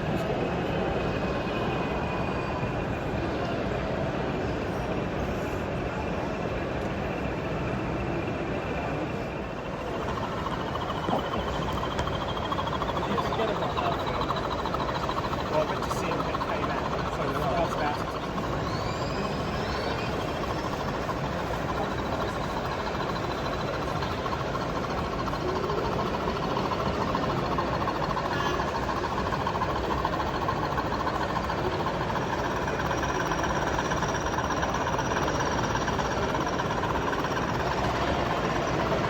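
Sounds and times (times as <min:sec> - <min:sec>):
exhibition hall crowd din: 0:00.0 - 0:39.0.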